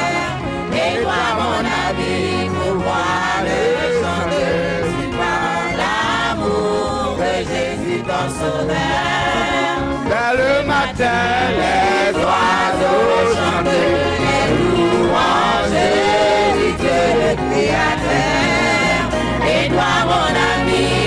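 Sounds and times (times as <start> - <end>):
band bass line: 0.0 - 21.0
choir singing a gospel hymn: 0.0 - 21.0.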